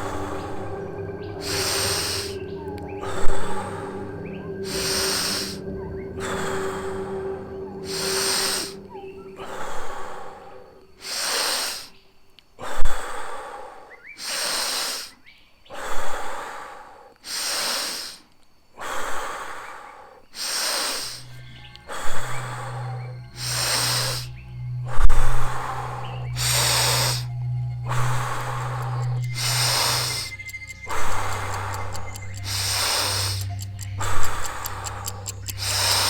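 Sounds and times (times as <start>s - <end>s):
faint background drone: 0.0s - 14.6s, 19.0s - 36.0s
deep rhythmic breathing: 0.0s - 36.0s.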